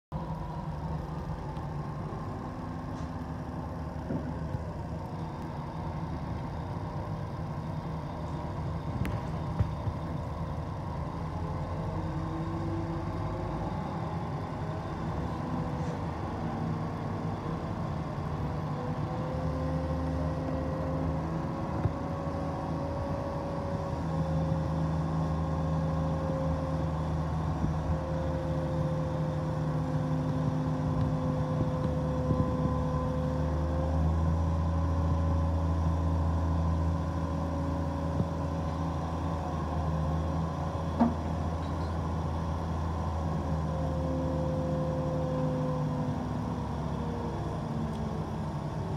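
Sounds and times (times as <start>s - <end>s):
diesel engine under load: 0.1s - 48.9s
steady whine: 0.1s - 48.9s.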